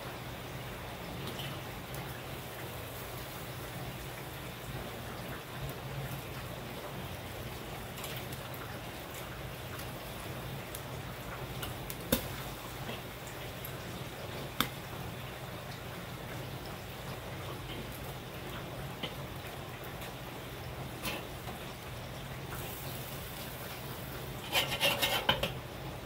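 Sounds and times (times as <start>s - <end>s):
meat sizzling on a grill: 0.0s - 26.0s.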